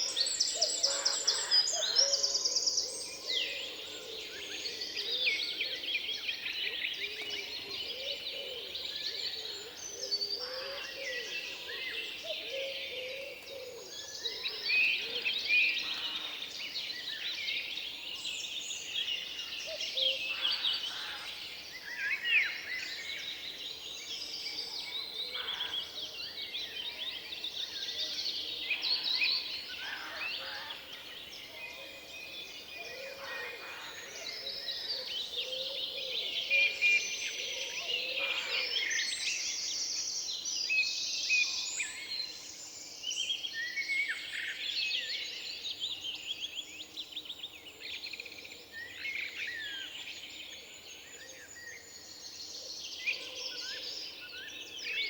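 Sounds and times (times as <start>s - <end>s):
birds singing in chorus: 0.0s - 55.0s.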